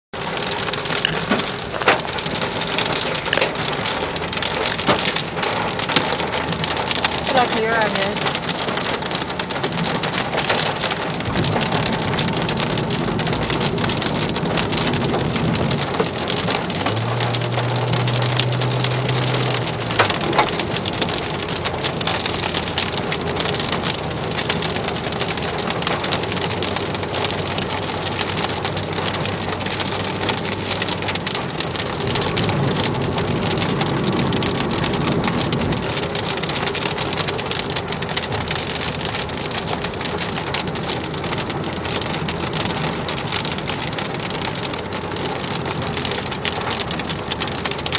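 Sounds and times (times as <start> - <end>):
rain and hail on car roof: 0.2 - 47.9.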